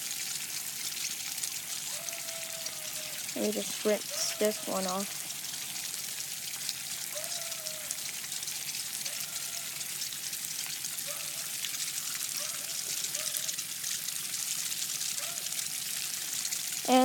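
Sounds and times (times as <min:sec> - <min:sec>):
water running and trickling: 0:00.0 - 0:17.0.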